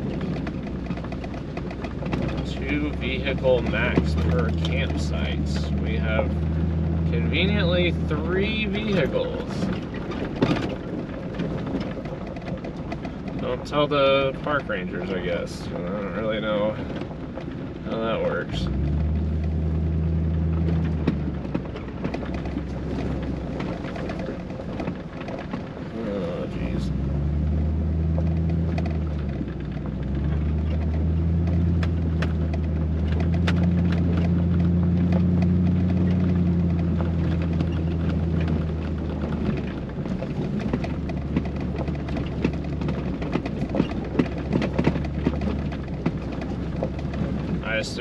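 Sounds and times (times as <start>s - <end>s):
engine drone: 0.0s - 48.0s
tyres crunching over gravel: 0.0s - 48.0s.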